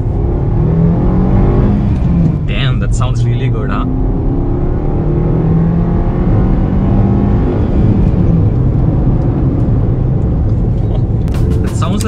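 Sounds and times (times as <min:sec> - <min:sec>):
car engine humming: 0:00.0 - 0:12.0
road and tyre noise: 0:00.0 - 0:12.0.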